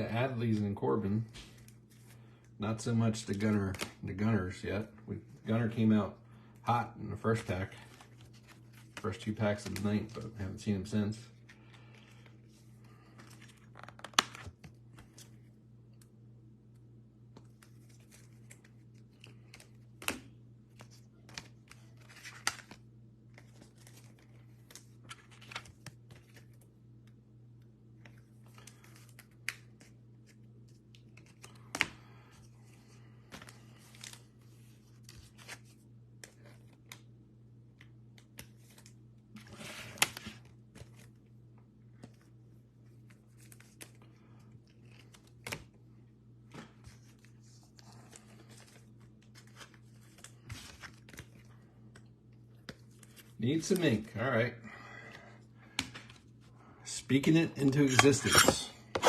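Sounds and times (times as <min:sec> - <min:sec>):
steady low hum: 0:00.0 - 0:59.0
cards and packaging rustling: 0:00.3 - 0:05.8, 0:07.1 - 0:27.2, 0:27.9 - 0:37.1, 0:37.7 - 0:54.4, 0:57.1 - 0:59.0.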